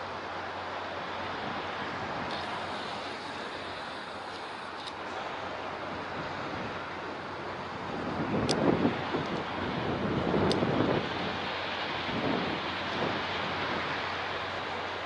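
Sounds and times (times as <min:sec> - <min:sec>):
water noise: 0:00.0 - 0:15.0
wind: 0:00.0 - 0:15.0
wind buffeting microphone: 0:01.2 - 0:15.0.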